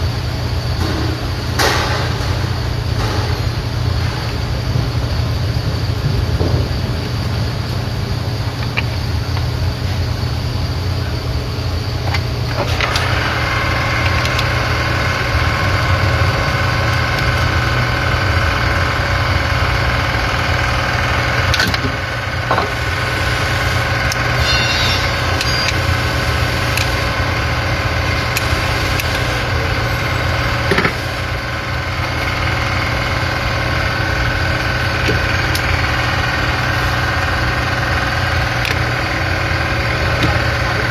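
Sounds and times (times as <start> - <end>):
car engine idling: 0.0 - 40.9
high-pitched whine: 0.0 - 40.9.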